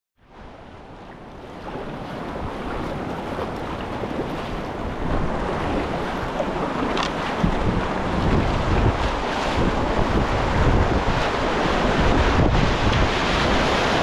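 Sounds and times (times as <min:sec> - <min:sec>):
wind buffeting microphone: 0:00.3 - 0:14.0
rushing whitewater: 0:00.4 - 0:14.0.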